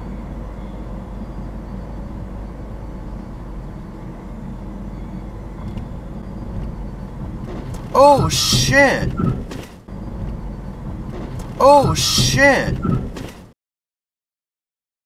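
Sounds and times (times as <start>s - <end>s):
car cabin road and engine noise: 0.0s - 13.6s.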